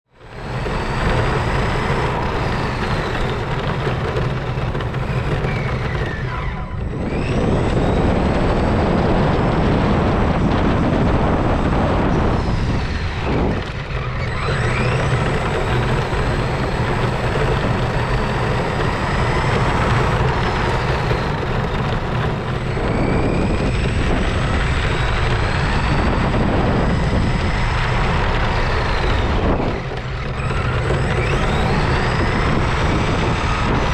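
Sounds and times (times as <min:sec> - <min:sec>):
high motor whine: 0:00.0 - 0:33.9
tyres rumbling on road: 0:00.1 - 0:33.9
wind on microphone: 0:00.2 - 0:33.9.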